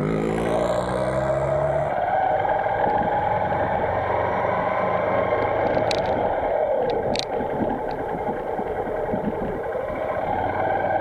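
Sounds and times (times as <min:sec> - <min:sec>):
motorcycle engine running: 0:00.0 - 0:11.0
wind rushing over microphone: 0:00.7 - 0:10.8.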